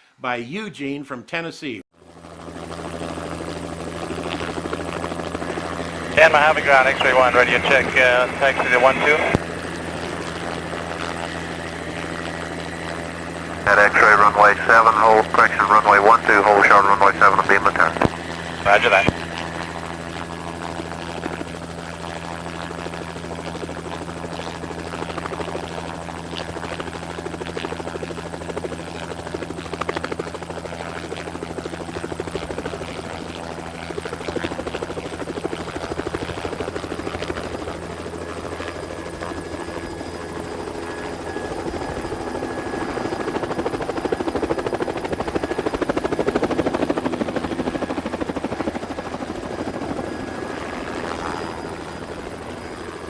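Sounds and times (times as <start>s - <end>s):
helicopter running: 1.9s - 53.0s.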